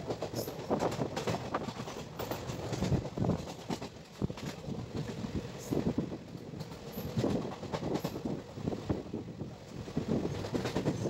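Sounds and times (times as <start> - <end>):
train wheels clattering on track: 0.0 - 9.1, 9.7 - 11.0.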